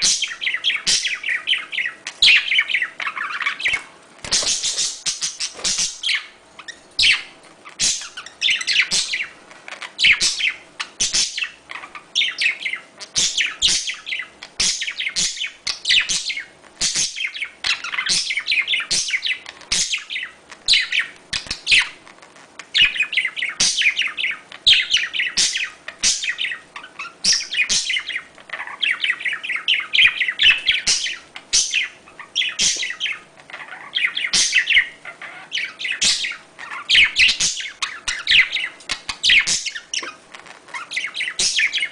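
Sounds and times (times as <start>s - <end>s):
budgerigars chirping and warbling: 0.0s - 22.0s, 22.6s - 41.9s.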